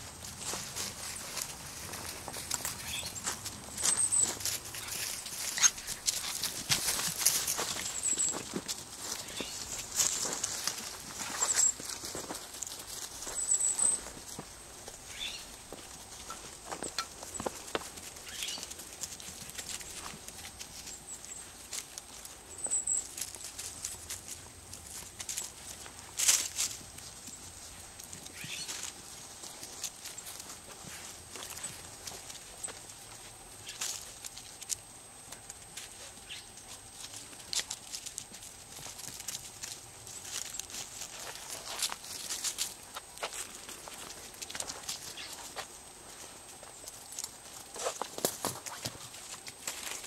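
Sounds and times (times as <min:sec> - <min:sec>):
paws scuffling through dry leaves: 0:00.0 - 0:34.8, 0:35.6 - 0:50.0.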